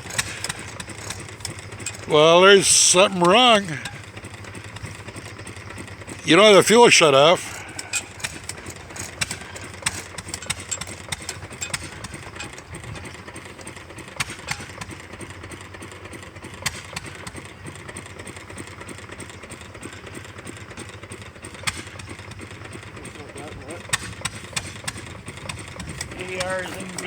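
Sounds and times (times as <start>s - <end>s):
sharp engine clicks: 0.0s - 27.0s
stationary gas engine running: 0.0s - 27.0s.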